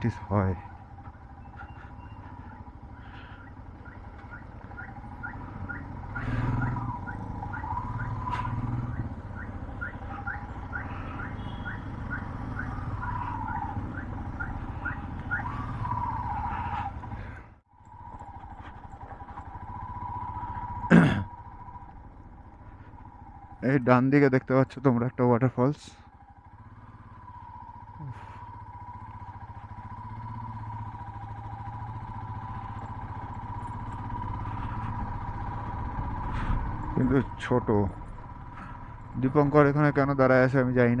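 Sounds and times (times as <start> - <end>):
motorcycle engine at low speed: 0.0 - 41.0.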